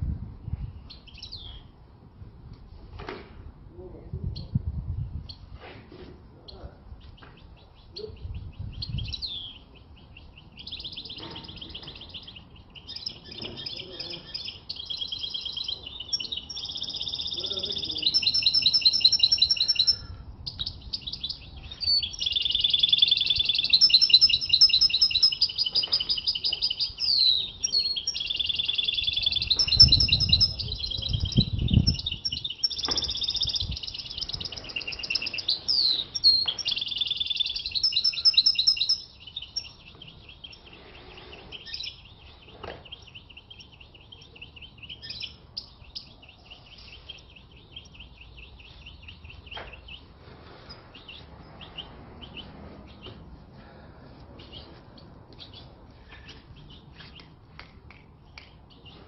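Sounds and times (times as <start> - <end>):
bird twittering song: 0.8 - 1.8, 6.4 - 53.4, 54.3 - 57.4, 58.2 - 59.0.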